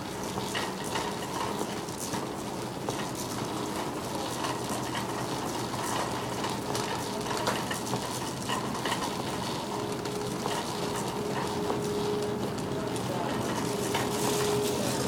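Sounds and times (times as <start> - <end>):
shopping cart rattling on floor: 0.1 - 15.0.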